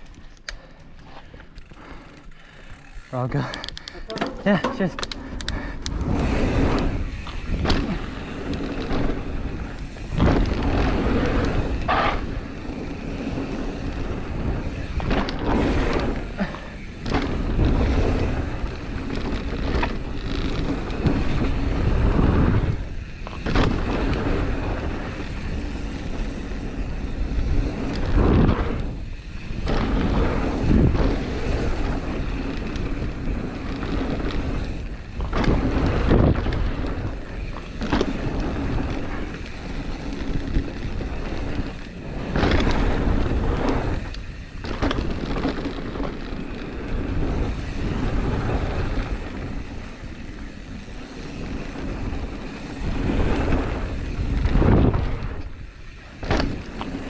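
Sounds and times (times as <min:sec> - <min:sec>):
bike tyre rumble: 0:00.0 - 0:57.0
bike knocks and rattles: 0:01.0 - 0:57.0
wind buffeting microphone: 0:02.8 - 0:57.0.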